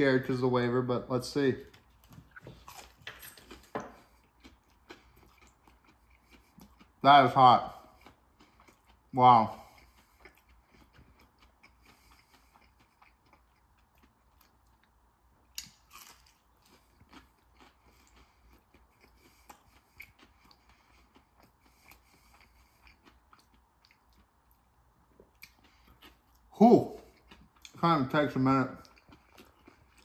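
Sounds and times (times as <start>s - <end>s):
person chewing food: 1.7s - 27.8s, 28.7s - 30.0s.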